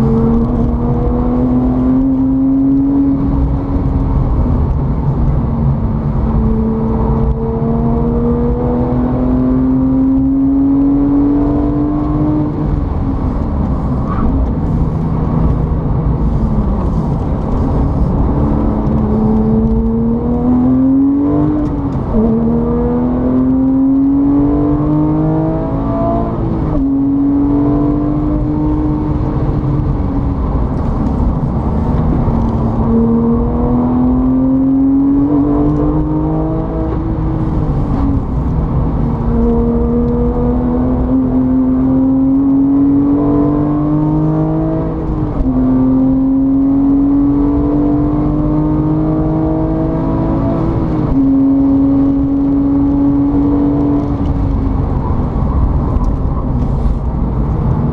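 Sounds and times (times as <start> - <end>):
vehicle engine accelerating: 0.0 - 57.9.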